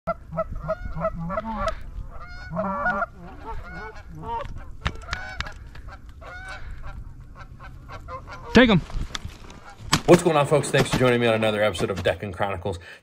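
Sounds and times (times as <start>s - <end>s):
geese honking: 0.1s - 10.5s.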